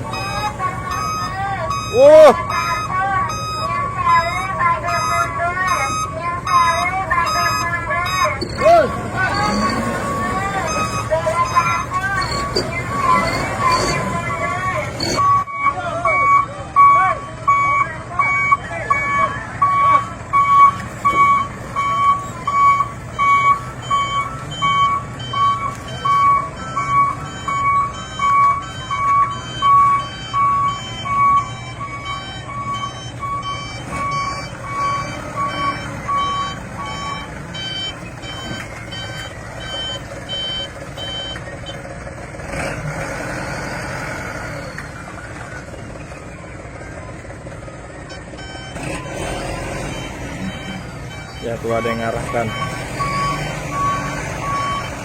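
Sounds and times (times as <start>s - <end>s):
high reversing alarm beeping: 0.0s - 41.9s, 44.4s - 55.0s
low reversing alarm beeping: 0.0s - 55.0s
truck engine running: 0.0s - 55.0s.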